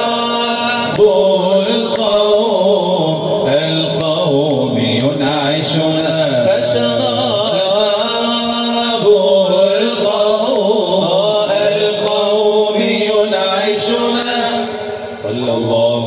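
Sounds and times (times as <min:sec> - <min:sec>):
man singing devotional chant: 0:00.0 - 0:16.0.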